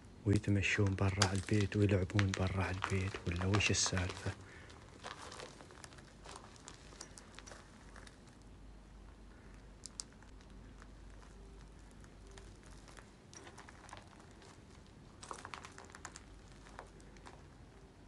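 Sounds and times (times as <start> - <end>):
footsteps crunching on rubble: 0.4 - 8.4, 10.3 - 17.5.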